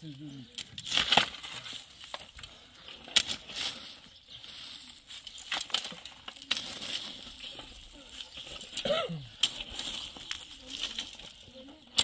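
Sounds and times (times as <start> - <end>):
shovels scraping stony soil: 0.5 - 12.0.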